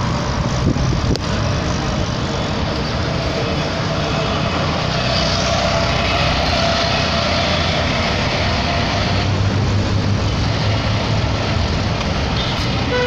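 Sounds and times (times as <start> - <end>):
city traffic: 0.0 - 13.0
vehicle engine and road noise: 0.0 - 13.0.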